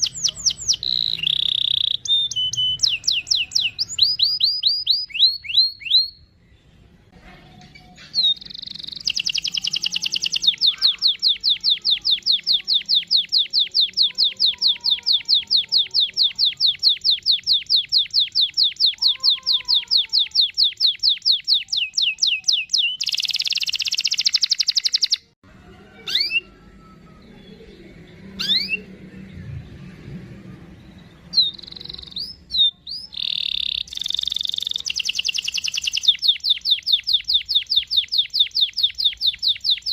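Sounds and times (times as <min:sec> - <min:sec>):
bird chirps rising: 0:00.0 - 0:06.6, 0:08.2 - 0:25.4, 0:26.0 - 0:29.6, 0:30.5 - 0:39.9
canary singing trills: 0:00.0 - 0:07.0, 0:07.7 - 0:29.3, 0:30.6 - 0:39.9.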